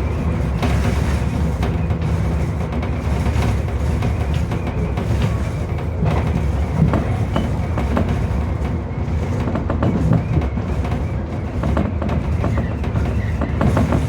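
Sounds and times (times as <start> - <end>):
track clicks and clatters: 0.0 - 14.0
train wheels rumbling on rail: 0.0 - 14.0.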